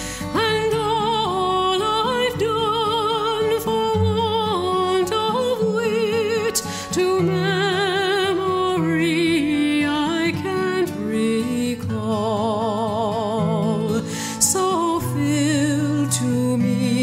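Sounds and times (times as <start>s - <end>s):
song with wavering vocals: 0.0s - 17.0s.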